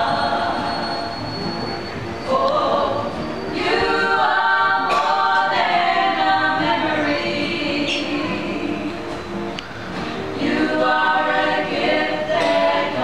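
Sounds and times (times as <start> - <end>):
women singing together: 0.0 - 1.3, 2.2 - 9.3, 10.2 - 13.0.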